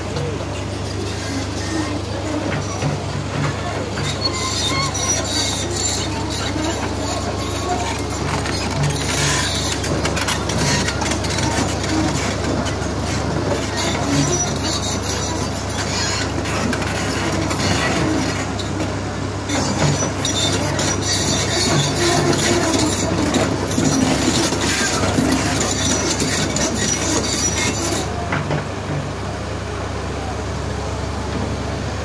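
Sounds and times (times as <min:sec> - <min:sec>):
metal tracks clanking and squealing: 0:00.0 - 0:29.2
diesel engine droning: 0:00.0 - 0:32.0.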